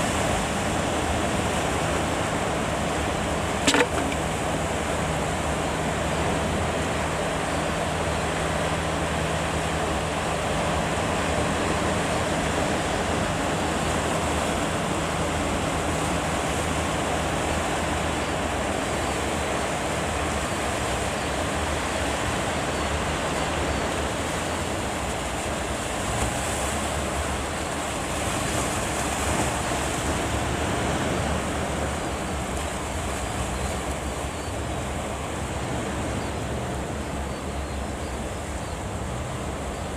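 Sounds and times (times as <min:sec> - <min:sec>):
breaking waves: 0:00.0 - 0:37.3.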